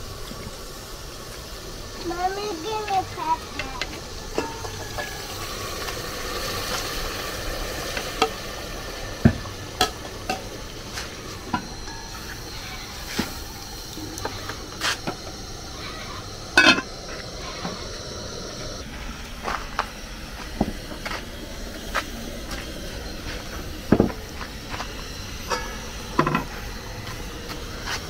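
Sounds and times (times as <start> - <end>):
food sizzling in pot: 0.0 - 28.0.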